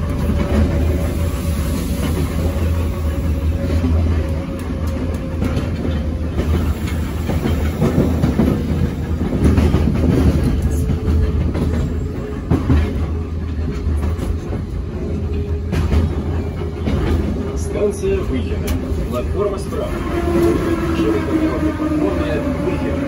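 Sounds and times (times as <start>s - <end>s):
metro car hum: 0.0s - 23.0s
wheels clattering over rail joints: 1.9s - 20.4s.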